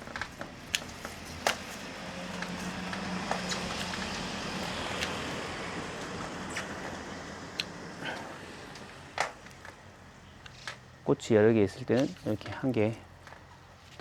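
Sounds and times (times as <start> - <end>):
motor vehicle passing: 0.0 - 12.3.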